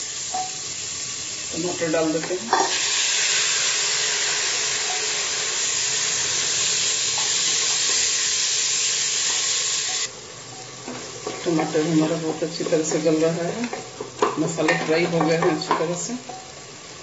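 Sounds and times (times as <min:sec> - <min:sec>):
tomatoes sizzling in hot oil: 0:00.0 - 0:17.0.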